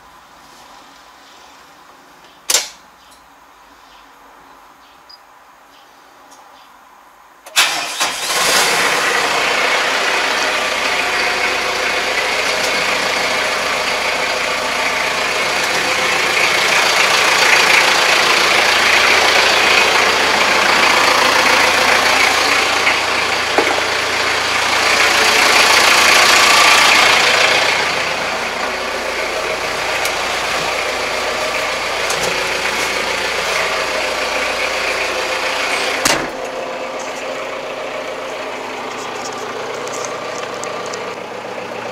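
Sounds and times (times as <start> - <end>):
tractor diesel engine running: 7.5 - 41.9.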